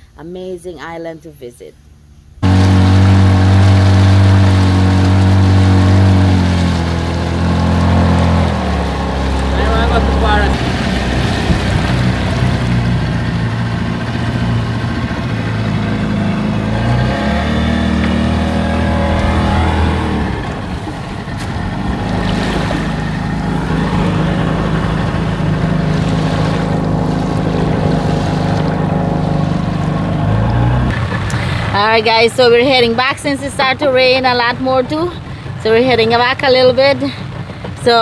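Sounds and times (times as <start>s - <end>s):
outboard motor running: 2.4s - 38.0s
water rushing past hull: 2.4s - 38.0s.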